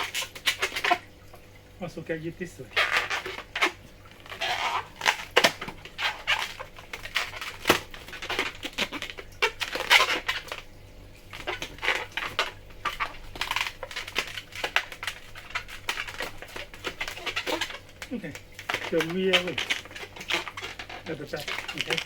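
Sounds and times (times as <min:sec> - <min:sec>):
balloons squeaking and rubbing: 0:00.0 - 0:01.1, 0:02.6 - 0:22.0.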